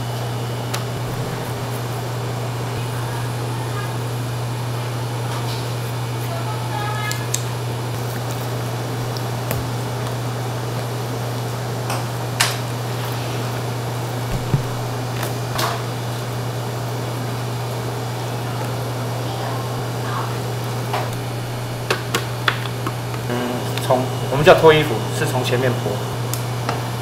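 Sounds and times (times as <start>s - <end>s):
kitchen ventilation hum: 0.0s - 27.0s.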